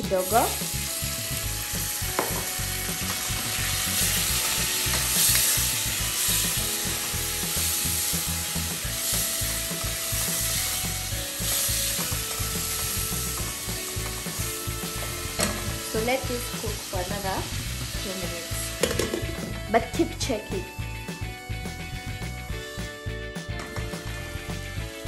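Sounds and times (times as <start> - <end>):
meat and onions sizzling: 0.0 - 25.0.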